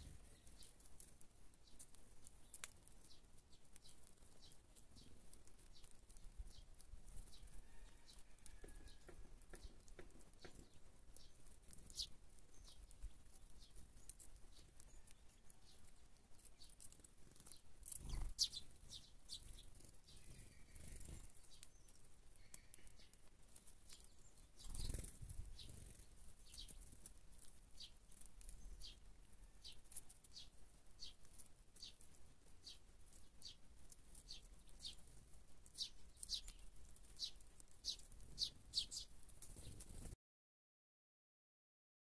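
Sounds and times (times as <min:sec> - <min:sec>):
sparrows chirping: 0:00.0 - 0:40.1.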